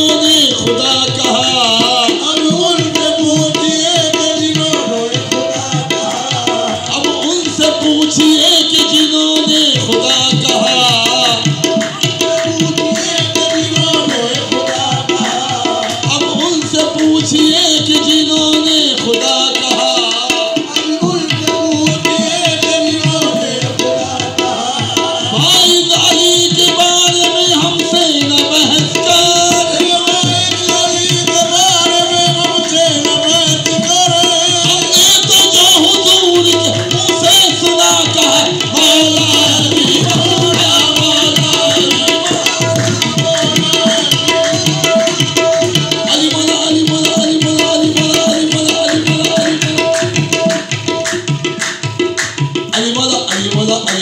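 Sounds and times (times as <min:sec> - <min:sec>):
tabla drumming: 0:00.0 - 0:54.0.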